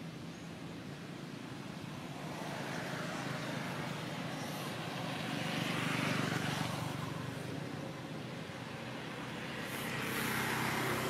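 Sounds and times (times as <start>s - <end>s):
vehicle passing by: 1.9s - 11.0s.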